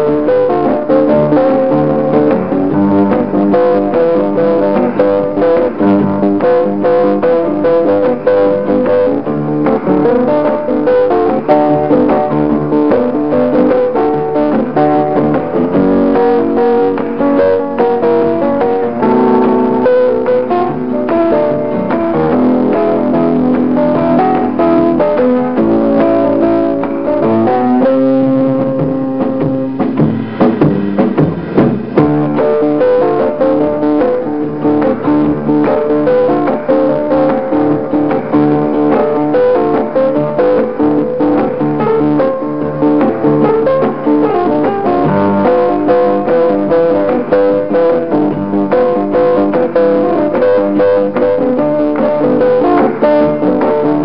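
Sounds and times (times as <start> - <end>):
instrumental background music: 0.0 - 54.0.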